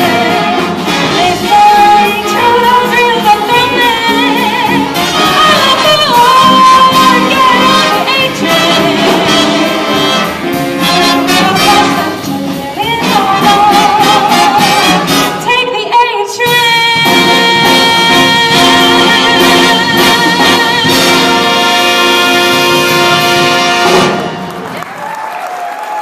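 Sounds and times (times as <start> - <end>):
woman singing: 0.0 - 22.4
jazz big band playing: 0.0 - 24.9.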